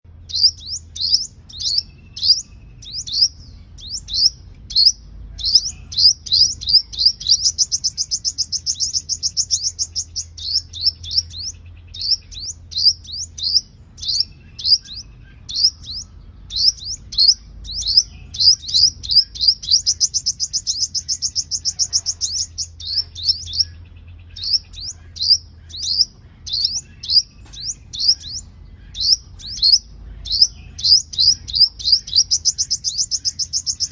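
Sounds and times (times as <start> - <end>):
bird chirping: 0.1 - 33.9
bird fast trill: 0.1 - 33.9.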